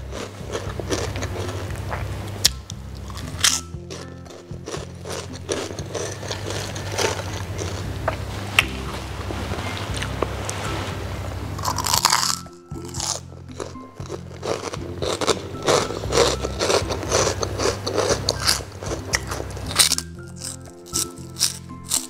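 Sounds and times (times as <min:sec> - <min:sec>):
crunchy food chewing: 0:00.0 - 0:10.3, 0:11.6 - 0:22.0
background music: 0:00.0 - 0:22.0.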